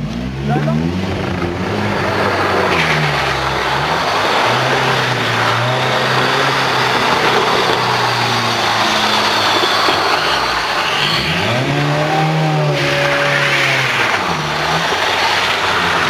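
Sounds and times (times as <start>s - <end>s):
car engine at high revs: 0.0s - 16.0s
tyres sliding on tarmac: 0.5s - 16.0s.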